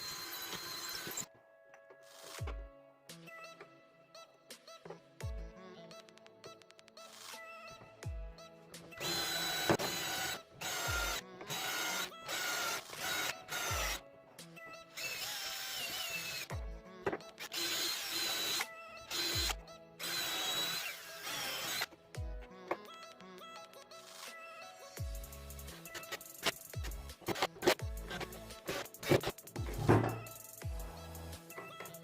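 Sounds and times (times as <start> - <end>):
background music with low beat: 1.8 - 3.6, 4.5 - 20.7, 21.3 - 24.2, 25.0 - 32.0.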